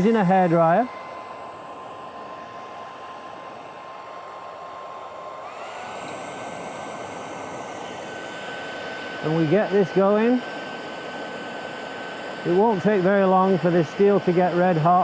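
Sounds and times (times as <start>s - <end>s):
hairdryer blowing air: 0.0s - 15.0s.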